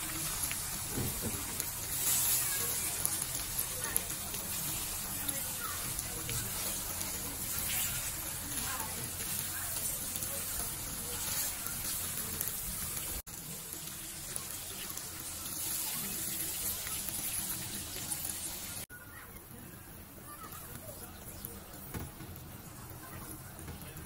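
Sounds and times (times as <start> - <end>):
chili paste sizzling in a wok: 0.0 - 24.0.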